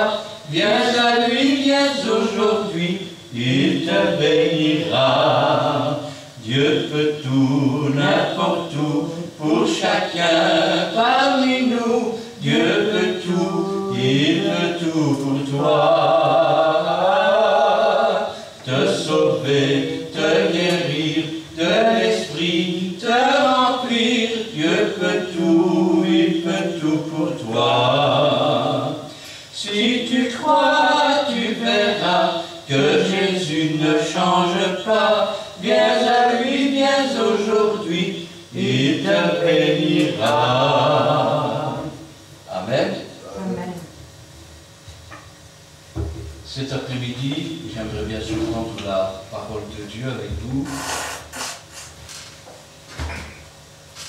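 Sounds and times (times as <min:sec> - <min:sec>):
unaccompanied hymn singing: 0:00.0 - 0:43.8.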